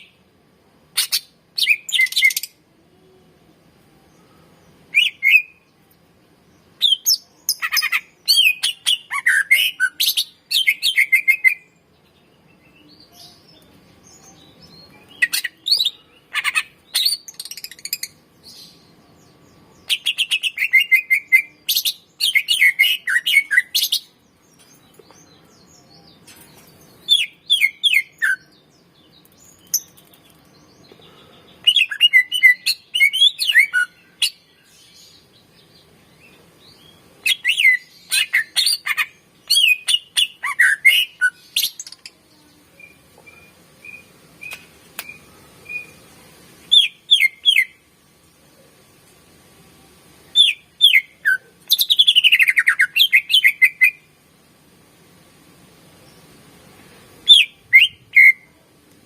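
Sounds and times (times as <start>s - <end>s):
bird singing chirps and trills: 1.0s - 3.2s, 4.0s - 5.9s, 6.5s - 47.8s, 50.3s - 54.1s.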